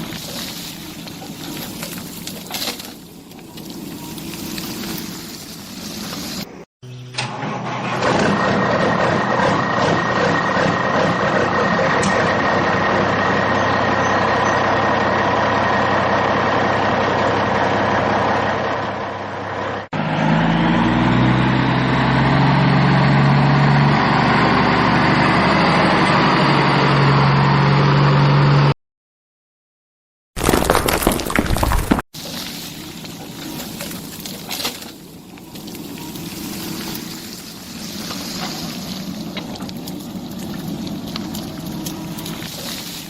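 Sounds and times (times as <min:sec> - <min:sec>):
vehicle engine running: 0:00.0 - 0:28.7, 0:32.2 - 0:43.0
lower-pitched engine hum: 0:00.0 - 0:28.8, 0:32.3 - 0:43.0.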